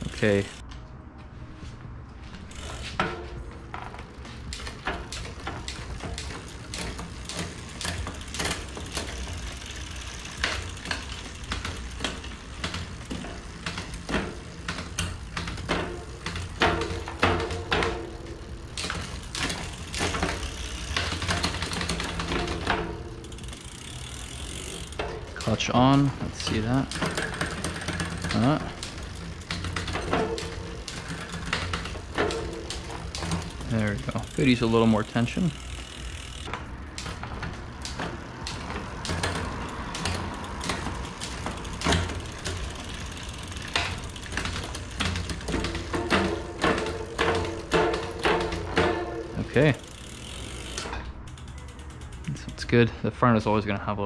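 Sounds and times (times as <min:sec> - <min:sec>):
bicycle chain running: 0:00.0 - 0:00.6, 0:02.4 - 0:53.7
chain clicks and clatters: 0:02.5 - 0:52.6.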